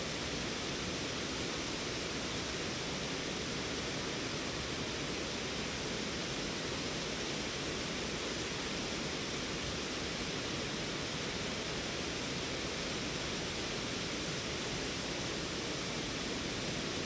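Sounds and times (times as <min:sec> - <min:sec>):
waterfall water rushing: 0:00.1 - 0:17.0.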